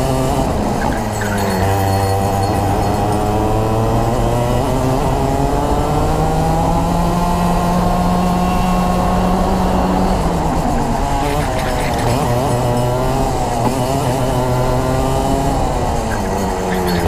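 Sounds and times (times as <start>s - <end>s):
kart engine at full throttle: 0.0s - 17.0s.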